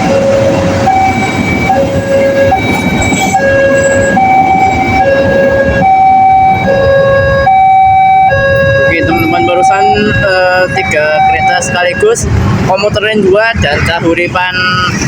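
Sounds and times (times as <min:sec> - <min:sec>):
two-tone level crossing siren: 0:00.0 - 0:12.3
passing train rumble: 0:00.0 - 0:15.0.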